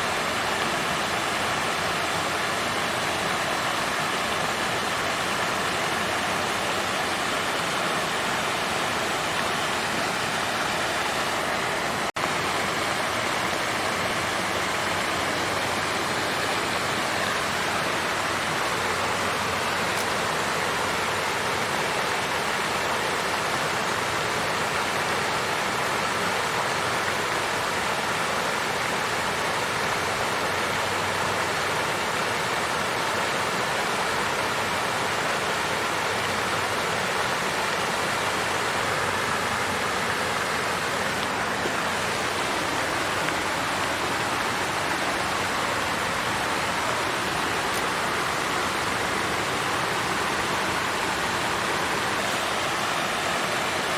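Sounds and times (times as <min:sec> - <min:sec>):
water fountain flowing: 0:00.0 - 0:53.9.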